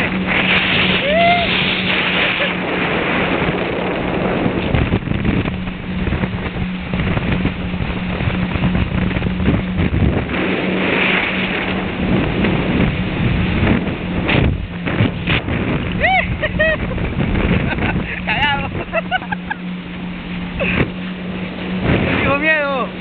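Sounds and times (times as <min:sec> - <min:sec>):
jet ski engine droning: 0:00.0 - 0:23.0
rushing water and spray: 0:00.0 - 0:23.0.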